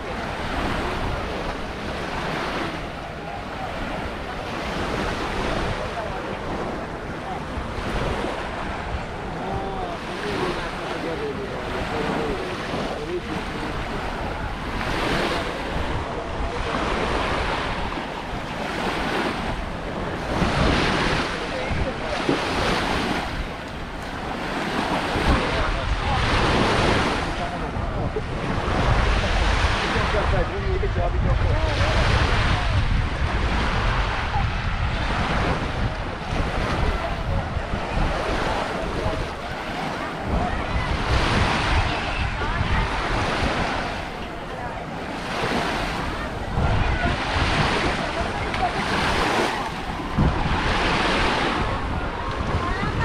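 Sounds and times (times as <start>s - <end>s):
faint voices: 0.0s - 53.0s
small waves washing on shore: 0.0s - 53.0s
wind buffeting microphone: 0.0s - 53.0s.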